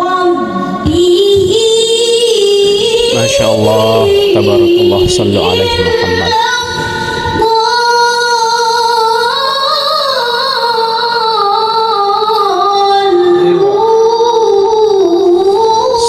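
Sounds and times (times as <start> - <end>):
child chanting: 0.8 - 9.2, 9.8 - 16.0.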